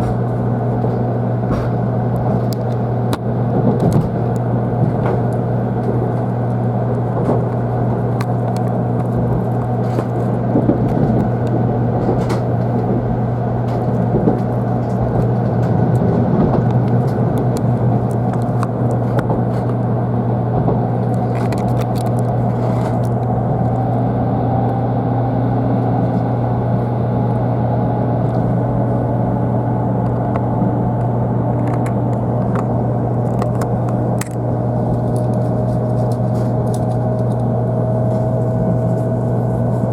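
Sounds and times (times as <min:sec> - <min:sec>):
faint whine rising in pitch: 0:00.0 - 0:39.9
train cabin rumble: 0:00.0 - 0:39.9.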